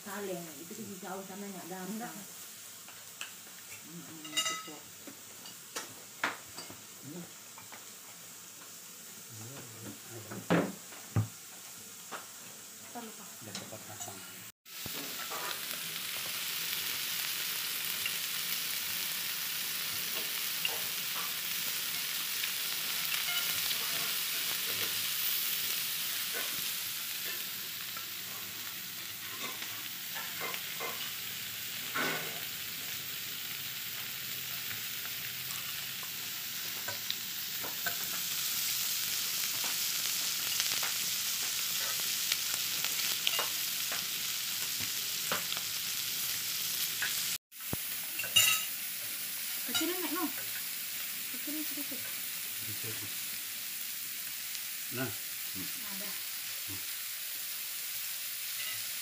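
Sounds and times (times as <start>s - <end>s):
food sizzling on a grill plate: 0.0s - 59.0s.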